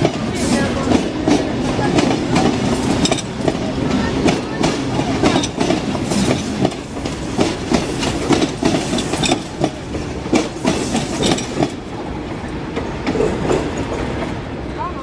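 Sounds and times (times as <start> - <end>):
train wheels clacking over rails: 0.0 - 14.8
train rumble: 0.0 - 15.0.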